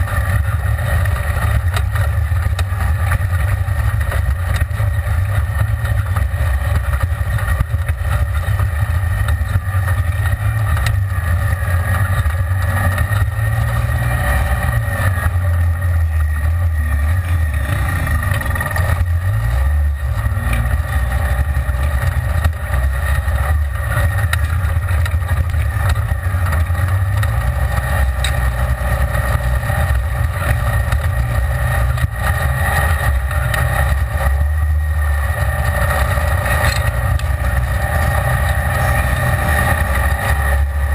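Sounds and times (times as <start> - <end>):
utility vehicle engine droning: 0.0 - 40.9.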